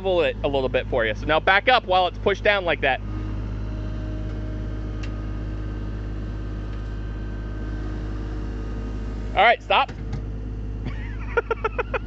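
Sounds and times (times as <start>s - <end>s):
skid steer engine running: 0.0s - 12.0s.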